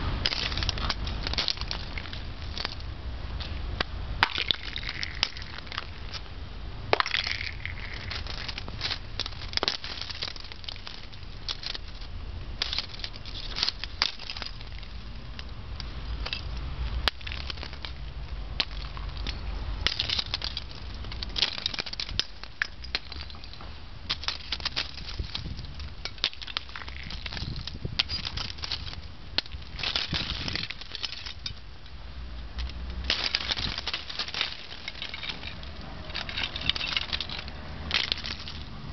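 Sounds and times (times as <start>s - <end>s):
ice-glazed twigs cracking and clinking: 0.2s - 2.8s, 4.2s - 6.3s, 6.9s - 32.0s, 32.6s - 38.8s.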